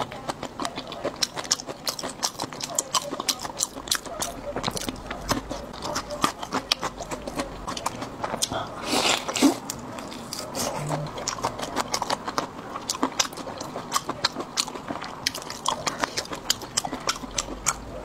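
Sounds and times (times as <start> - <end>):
biting and chewing clicks: 0.0 - 18.0.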